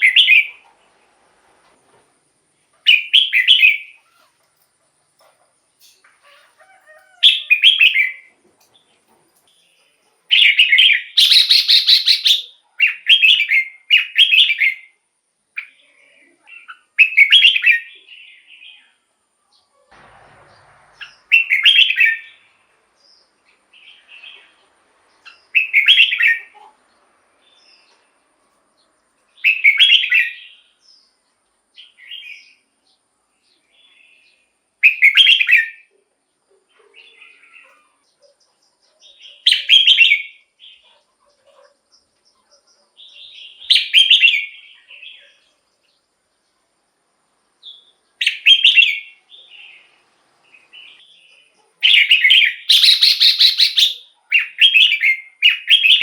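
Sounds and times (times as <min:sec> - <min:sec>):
bird singing warbled phrases: 0:00.0 - 0:00.7, 0:02.8 - 0:04.5, 0:05.8 - 0:19.7, 0:21.0 - 0:26.8, 0:28.8 - 0:31.2, 0:31.8 - 0:46.0, 0:47.6 - 0:56.0.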